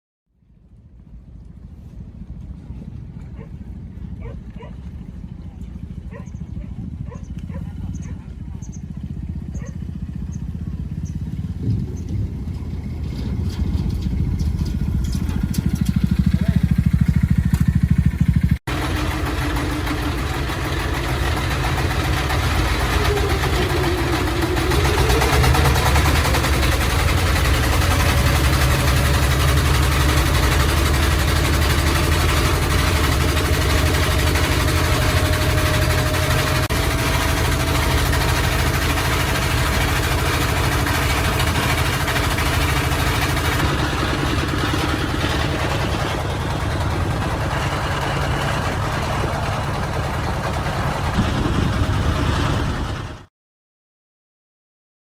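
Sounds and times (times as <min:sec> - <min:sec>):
engine running: 0:00.4 - 0:53.3.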